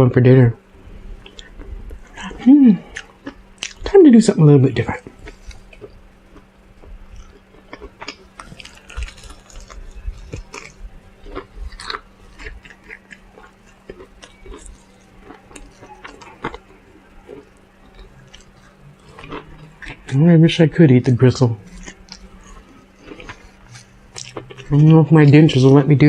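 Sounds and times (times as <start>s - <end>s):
person chewing and lip smacking: 1.2s - 3.9s, 5.0s - 20.2s, 21.6s - 25.0s
food crunching: 1.2s - 26.0s.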